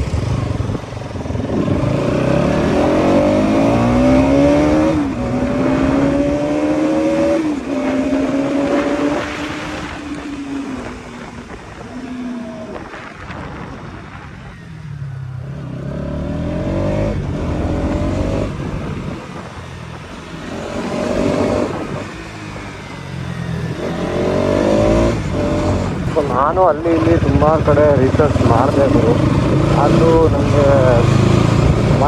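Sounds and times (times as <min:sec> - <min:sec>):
motorcycle engine running: 0:00.0 - 0:32.0
road and wind noise: 0:00.0 - 0:32.0.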